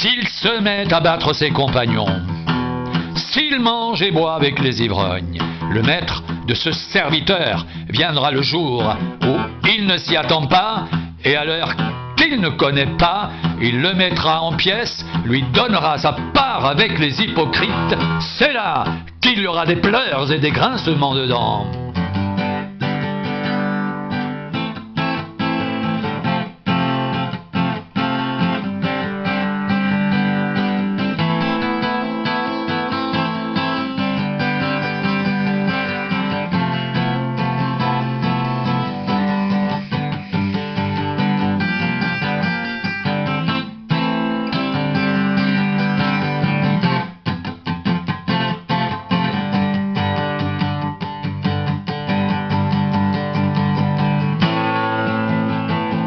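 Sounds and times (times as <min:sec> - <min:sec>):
acoustic guitar plucked and strummed: 0:00.0 - 0:56.0.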